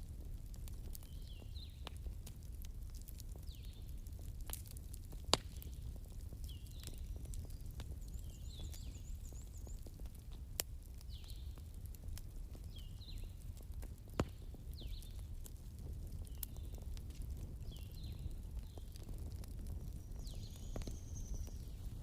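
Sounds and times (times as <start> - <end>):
bonfire crackling and popping: 0.0 - 22.0.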